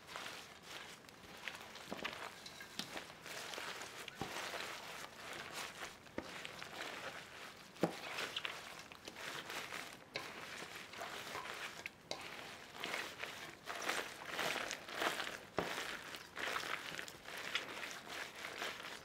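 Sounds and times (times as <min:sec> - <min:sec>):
gloved hands rustling onions: 0:00.0 - 0:19.0.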